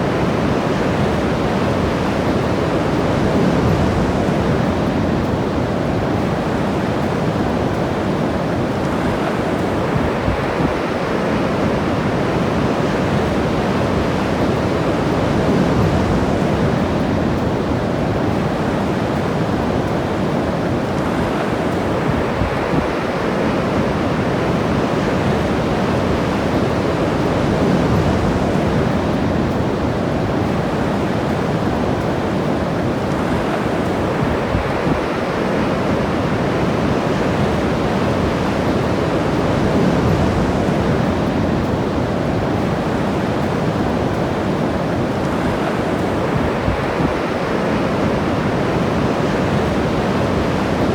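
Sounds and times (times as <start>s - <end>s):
ocean waves washing on beach: 0.0s - 50.9s
wind buffeting microphone: 0.0s - 50.9s.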